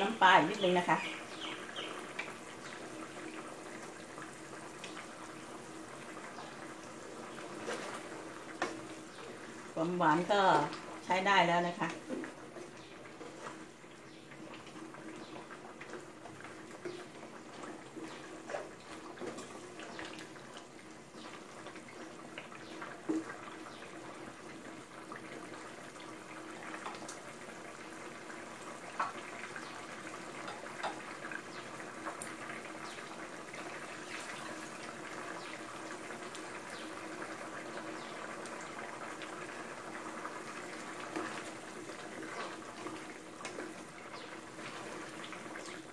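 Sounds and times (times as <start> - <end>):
curry bubbling in a pot: 0.0 - 45.9.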